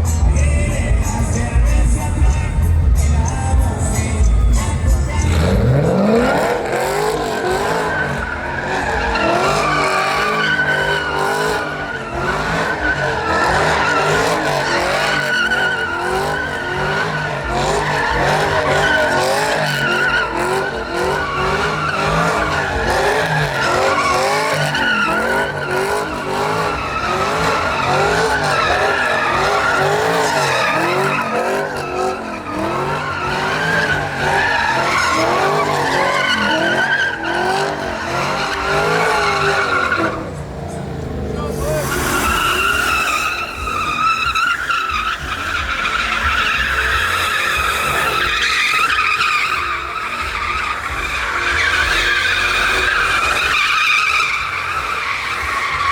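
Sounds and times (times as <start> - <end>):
tires squealing on pavement: 0.0 - 55.9
truck engine revving: 0.0 - 55.9.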